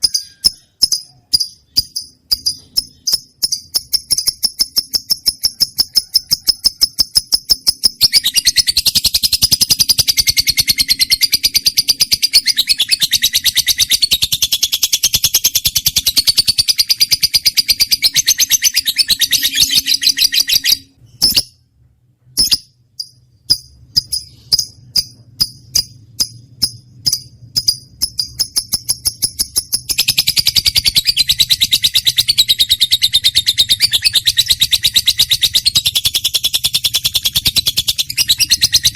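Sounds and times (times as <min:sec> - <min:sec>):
lovebird chattering: 0:00.0 - 0:21.5, 0:22.4 - 0:38.9.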